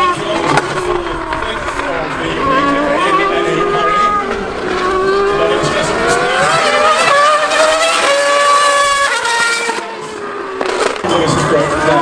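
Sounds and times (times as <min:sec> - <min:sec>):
racing engine accelerating: 0:00.0 - 0:12.0.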